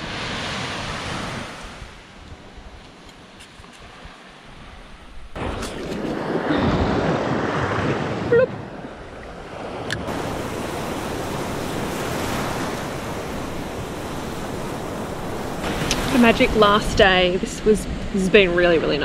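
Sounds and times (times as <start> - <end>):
small waves washing: 0.0 - 18.5
wind buffeting microphone: 0.7 - 19.0.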